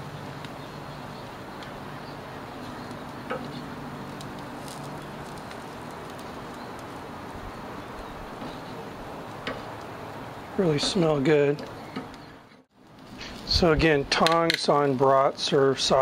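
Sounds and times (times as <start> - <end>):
sausages sizzling on a grill: 0.1 - 12.0, 12.9 - 16.0.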